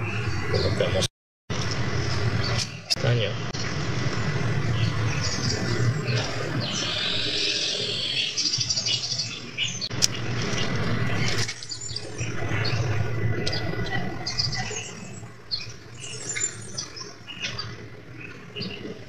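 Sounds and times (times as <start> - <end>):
birds chirping and squawking: 0.0 - 1.1, 2.2 - 19.0.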